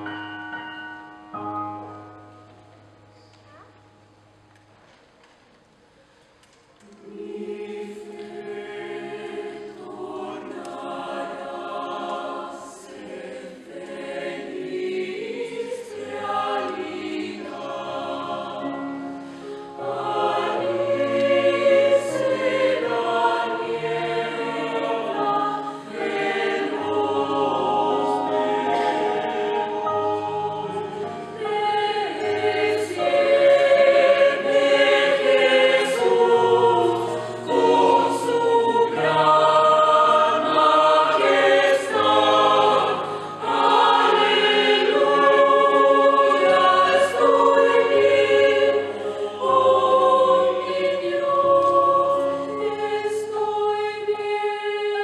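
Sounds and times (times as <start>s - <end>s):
choir singing a hymn: 6.8s - 55.0s.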